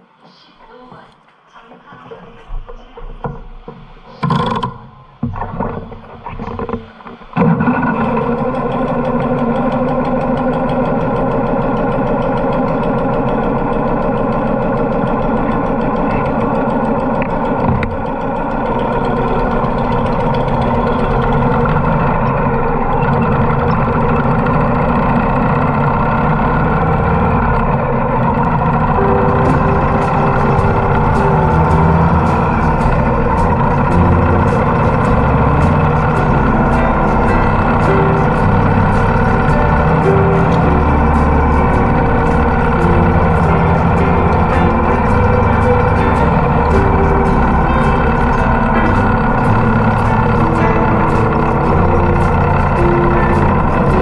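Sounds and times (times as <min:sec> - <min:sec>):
motorcycle engine idling: 0:08.2 - 0:54.0.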